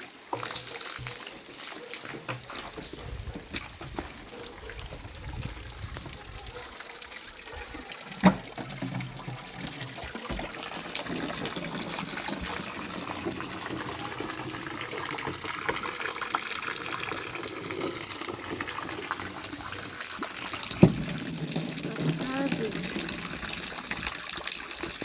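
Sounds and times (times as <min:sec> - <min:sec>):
water running and splashing: 0:00.0 - 0:25.0.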